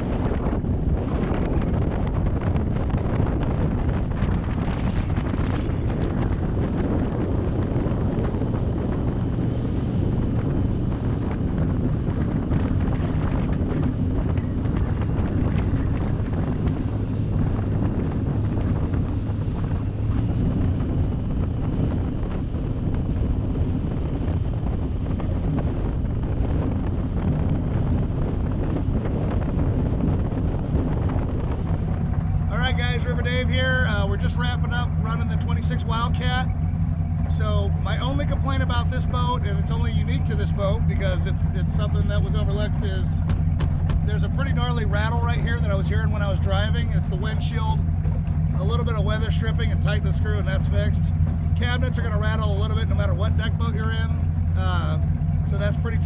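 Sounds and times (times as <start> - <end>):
boat engine drone: 0.0 - 56.0
water noise from boat: 0.0 - 56.0
wind rushing over microphone: 0.0 - 56.0.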